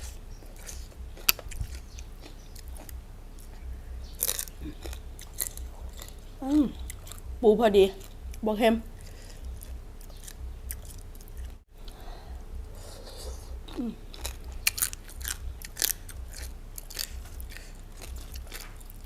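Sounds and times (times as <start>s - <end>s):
person chewing crunchy food: 0.0s - 7.3s, 7.9s - 11.7s, 12.7s - 19.0s.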